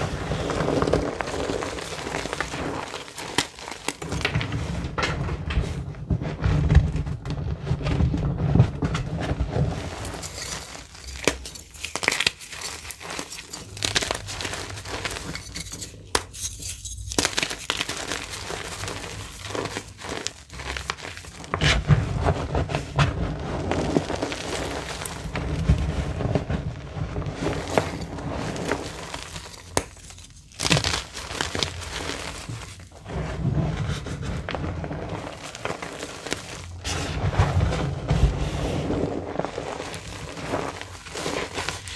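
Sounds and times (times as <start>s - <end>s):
chalk crunching and crackling: 0.0s - 4.8s, 7.3s - 41.9s.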